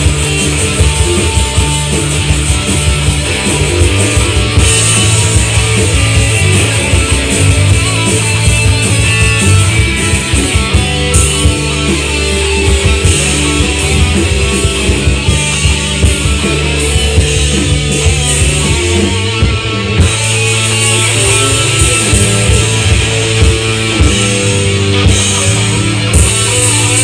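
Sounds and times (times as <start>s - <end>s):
electric guitar: 0.0s - 27.0s
hard rock band jamming: 0.0s - 27.0s.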